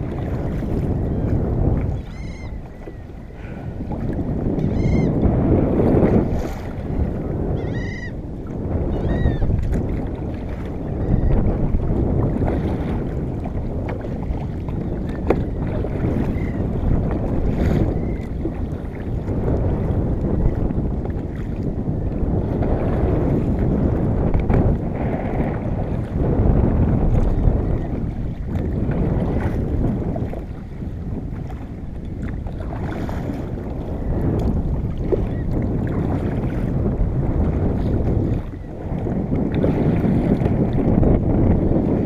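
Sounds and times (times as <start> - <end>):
water sloshing around kayak: 0.0 - 42.0
wind buffeting microphone: 0.0 - 42.0.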